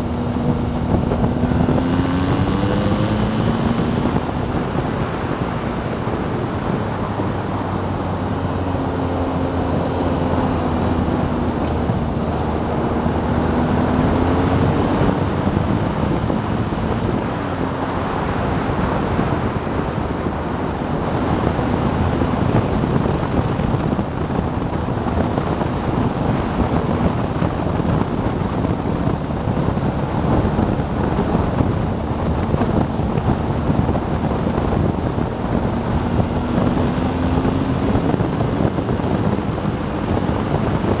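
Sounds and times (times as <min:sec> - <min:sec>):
motorcycle engine: 0:00.0 - 0:41.0
wind rushing over microphone: 0:00.0 - 0:41.0.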